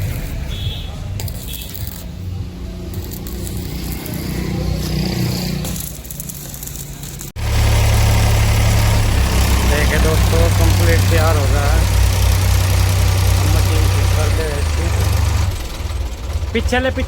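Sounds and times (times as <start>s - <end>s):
engine rumbling: 1.8s - 17.0s.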